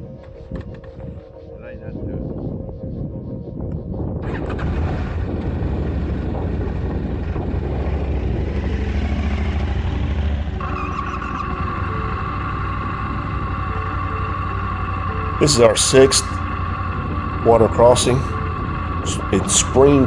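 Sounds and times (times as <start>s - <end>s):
road and wind noise: 0.0s - 20.0s
motorcycle engine drone: 2.3s - 20.0s.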